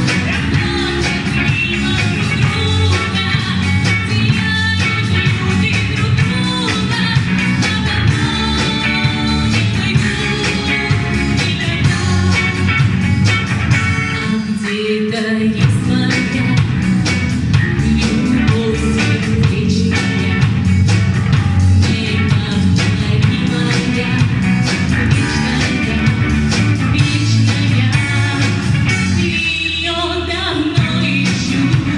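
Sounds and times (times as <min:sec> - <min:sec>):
pop-rock song with singing: 0:00.0 - 0:31.9.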